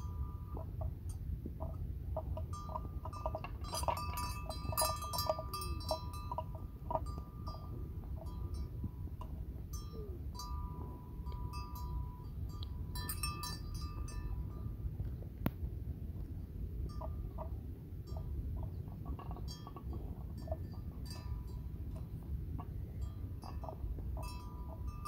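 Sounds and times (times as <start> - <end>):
livestock bell clanking: 0.0 - 15.0, 16.4 - 25.0.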